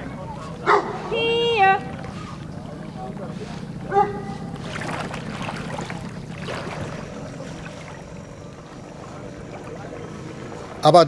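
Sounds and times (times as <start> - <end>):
steady low hum: 0.0 - 11.0
water splashing and lapping: 0.0 - 11.0.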